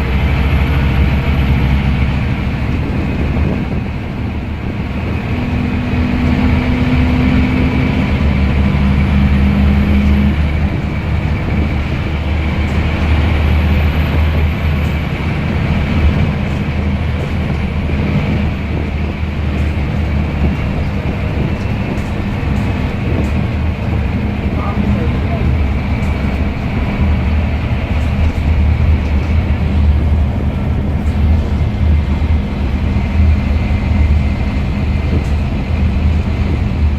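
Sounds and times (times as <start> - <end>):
bus diesel engine drone: 0.0 - 36.9.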